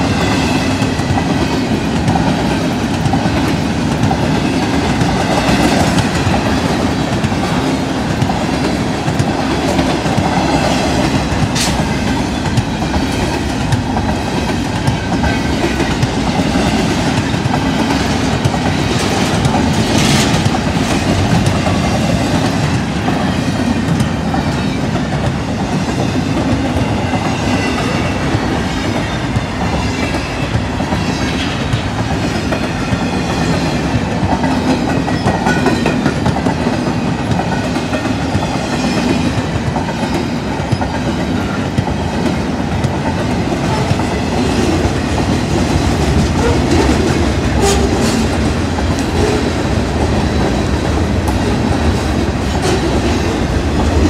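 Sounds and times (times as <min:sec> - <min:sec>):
rattling freight cars: 0:00.0 - 0:54.0
train wheels rumbling on rail: 0:00.0 - 0:54.0.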